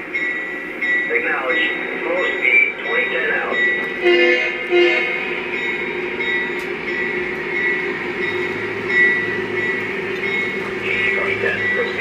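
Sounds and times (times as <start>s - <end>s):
model train diesel sound effects: 0.0s - 12.0s.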